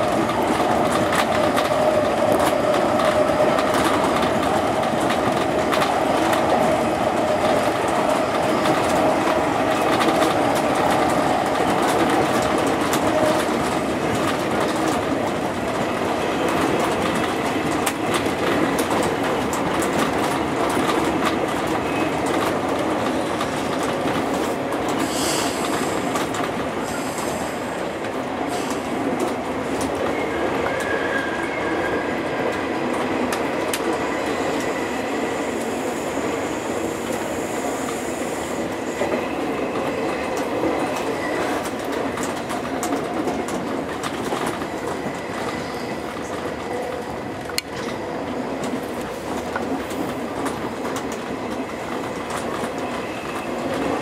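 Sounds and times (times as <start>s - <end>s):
rail joint clicks: 0.0s - 31.5s, 32.4s - 36.0s, 36.9s - 54.0s
train wheels running on rails: 0.0s - 54.0s.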